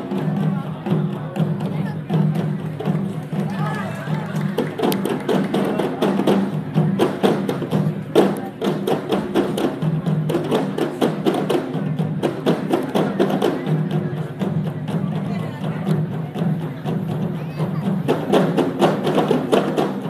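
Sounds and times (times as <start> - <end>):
percussion music: 0.0 - 20.0.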